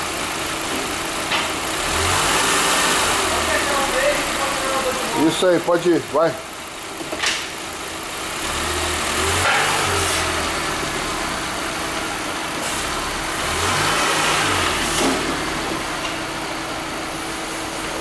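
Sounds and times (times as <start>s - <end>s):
car engine revving: 0.0s - 17.7s.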